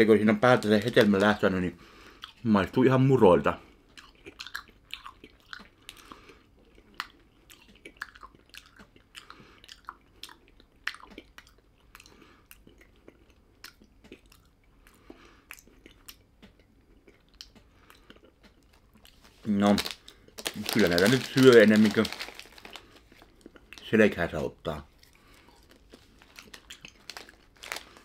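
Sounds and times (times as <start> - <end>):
person chewing crunchy snack: 3.7 - 23.8, 24.9 - 28.0.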